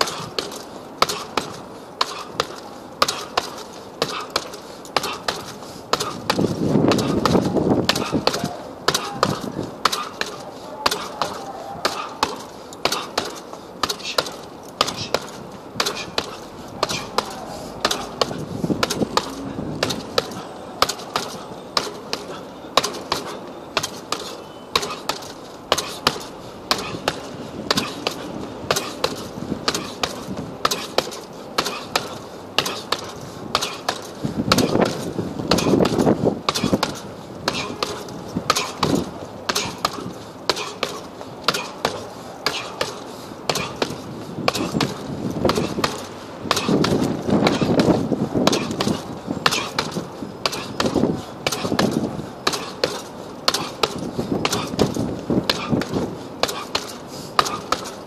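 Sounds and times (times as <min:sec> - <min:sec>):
boxing gloves thudding on punching bag: 0:00.0 - 0:58.0.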